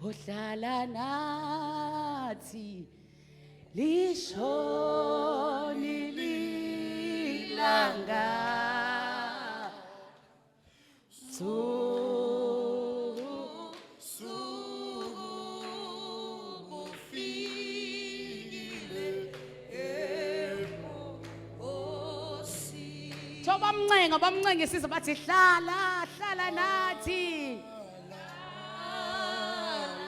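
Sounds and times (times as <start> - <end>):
person singing a slow hymn: 3.7 - 10.2, 11.1 - 30.0.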